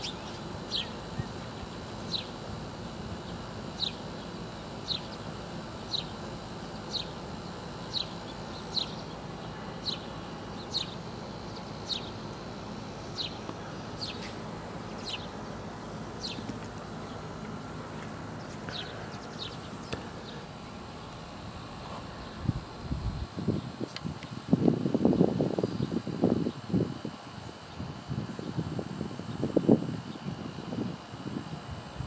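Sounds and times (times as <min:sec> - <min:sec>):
low background noise: 0:00.0 - 0:32.0.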